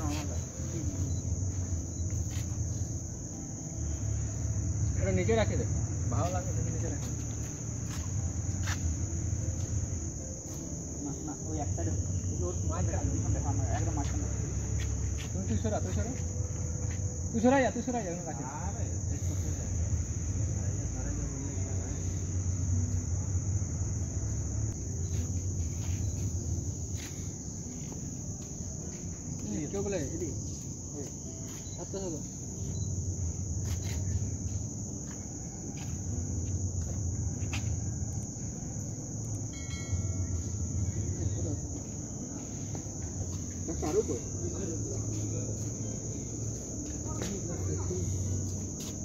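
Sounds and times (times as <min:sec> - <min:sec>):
crickets chirring: 0:00.0 - 0:49.0.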